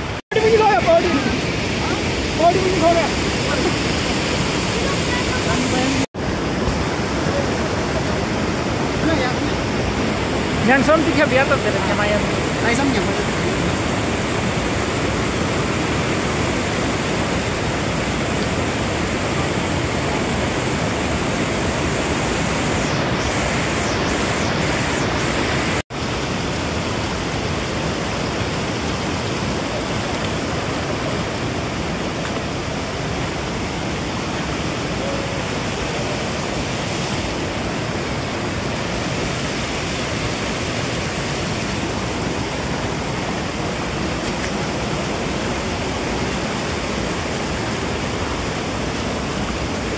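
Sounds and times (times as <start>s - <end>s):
heavy rushing water: 0.0s - 49.9s.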